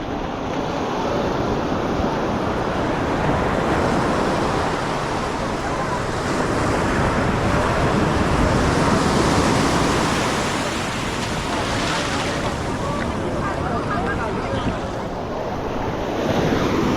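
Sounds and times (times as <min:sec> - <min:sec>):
surf washing on beach: 0:00.0 - 0:16.9.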